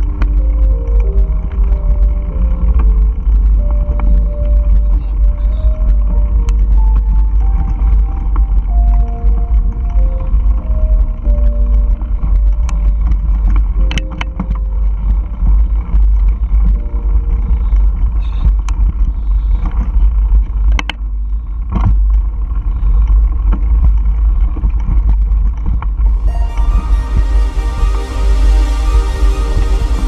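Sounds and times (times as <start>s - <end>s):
bike rattling over bumps: 0.0s - 26.1s.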